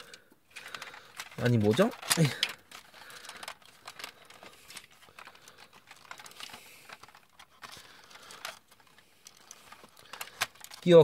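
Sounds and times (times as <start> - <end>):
plastic toy parts clicking: 0.0 - 11.0.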